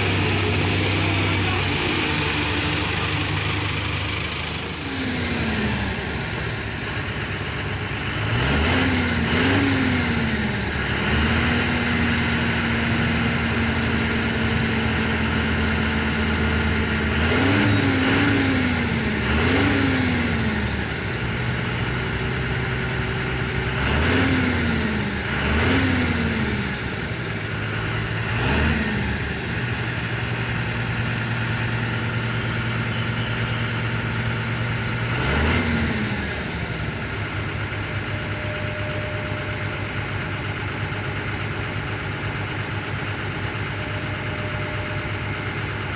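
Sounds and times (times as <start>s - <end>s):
truck diesel engine revving: 0.0s - 45.9s.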